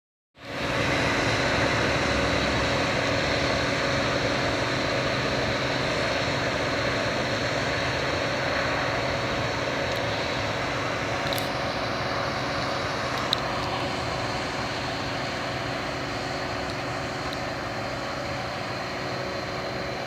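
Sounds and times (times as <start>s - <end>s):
combine harvester running: 0.4s - 20.0s.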